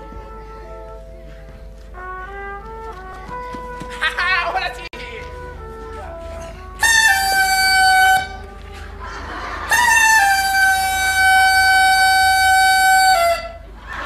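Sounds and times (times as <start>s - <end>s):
wind instrument held notes: 0.0s - 9.0s, 9.6s - 13.8s.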